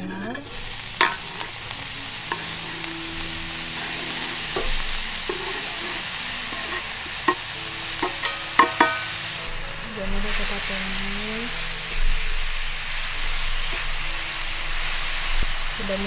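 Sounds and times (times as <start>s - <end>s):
mushrooms sizzling in butter: 0.2s - 16.0s.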